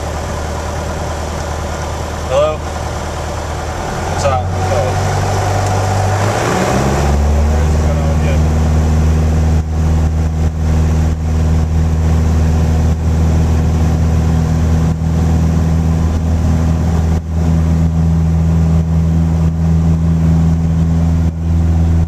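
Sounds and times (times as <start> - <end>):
aircraft engine and propeller drone: 0.0 - 22.0.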